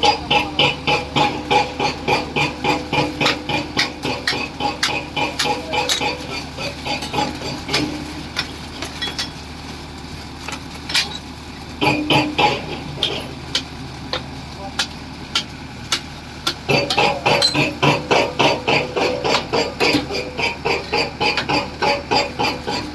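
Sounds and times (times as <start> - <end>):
steady machine hum: 0.0 - 22.9.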